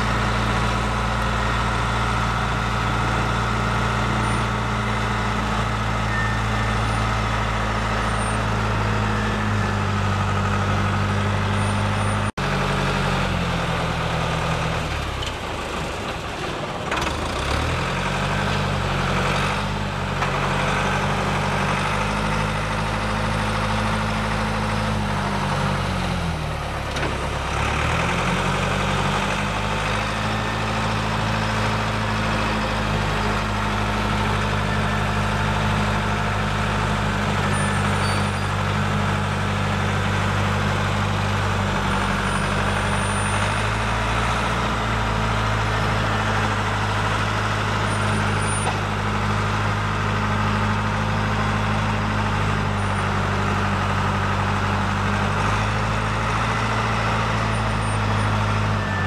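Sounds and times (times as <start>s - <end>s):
tow tractor engine running: 0.0s - 59.0s.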